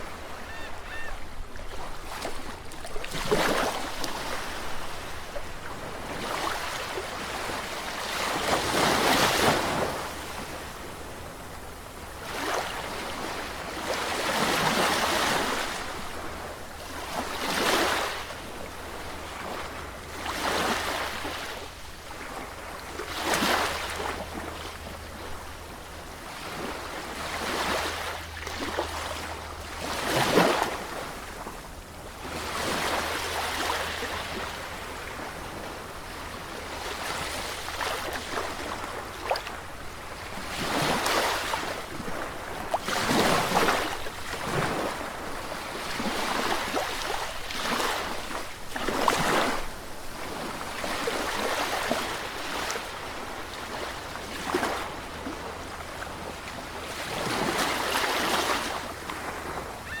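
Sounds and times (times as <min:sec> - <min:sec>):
sea waves breaking on shore: 0:00.0 - 1:00.0.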